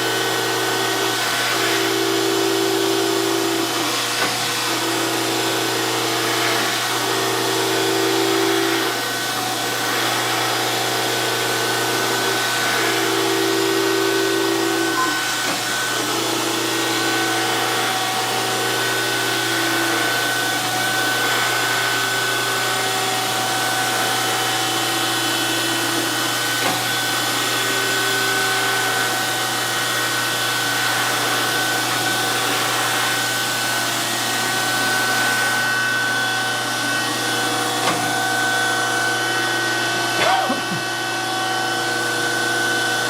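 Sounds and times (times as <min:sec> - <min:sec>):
grinder machine whine: 0:00.0 - 0:43.0.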